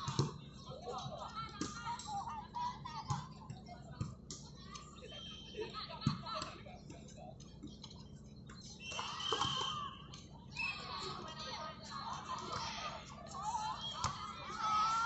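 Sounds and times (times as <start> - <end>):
indistinct voices and chatter: 0.0 - 15.0.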